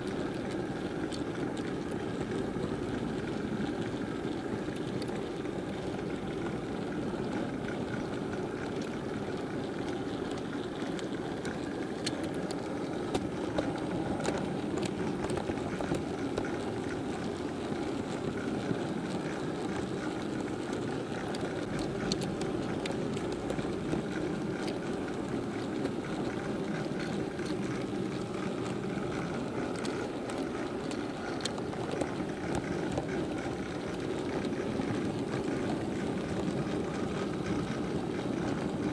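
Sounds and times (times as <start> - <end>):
model train wheels rumbling: 0.0 - 38.9
wheels clicking over rail joints: 0.0 - 38.9.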